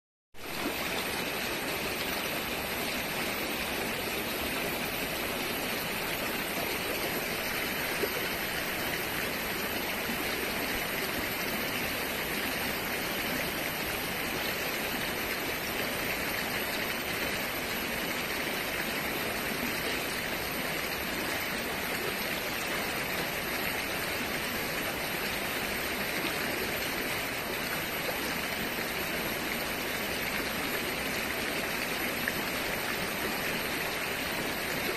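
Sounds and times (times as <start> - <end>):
river water rushing over stones: 0.4 - 34.9.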